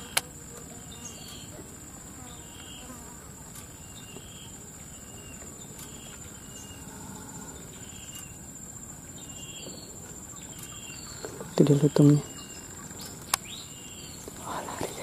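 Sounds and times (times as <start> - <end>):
insect chirps: 0.0 - 15.0
insects high-pitched whine: 0.0 - 15.0.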